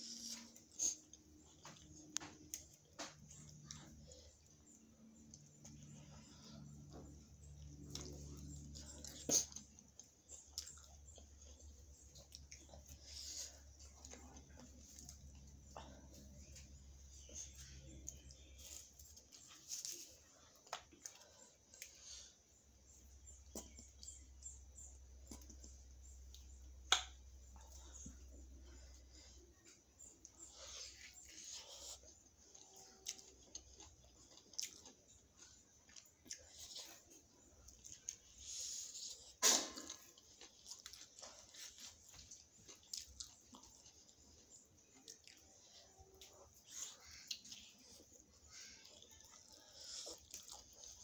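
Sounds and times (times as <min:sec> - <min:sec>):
low steady hum: 0:00.0 - 0:51.0
mouth clicks and smacks chewing: 0:07.6 - 0:22.1, 0:22.9 - 0:28.8, 0:29.6 - 0:51.0.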